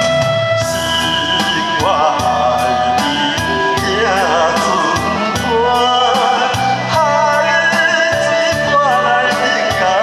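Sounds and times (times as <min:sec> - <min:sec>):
karaoke backing track: 0:00.0 - 0:10.0
man singing with vibrato: 0:00.0 - 0:10.0.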